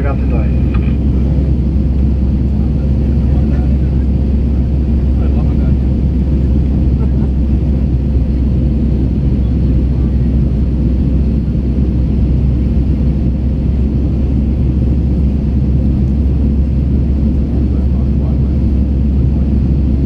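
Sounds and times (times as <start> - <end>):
jet engines and airflow rumbling: 0.0 - 20.0.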